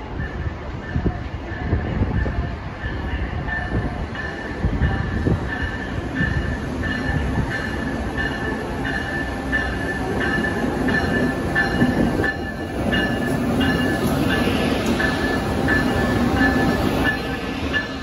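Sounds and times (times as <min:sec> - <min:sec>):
train wheels rumbling on rails: 0:00.0 - 0:18.0
pulsing bell-like high tone: 0:03.0 - 0:18.0.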